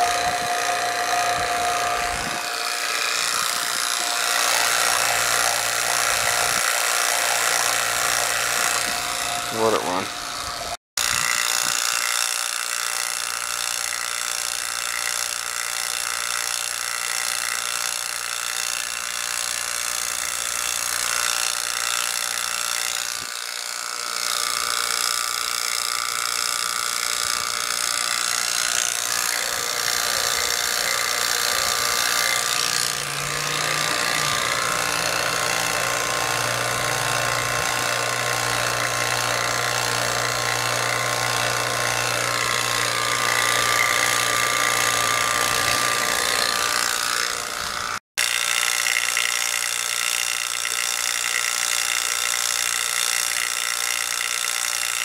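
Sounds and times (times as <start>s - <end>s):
vacuum pump running: 0.0s - 55.0s.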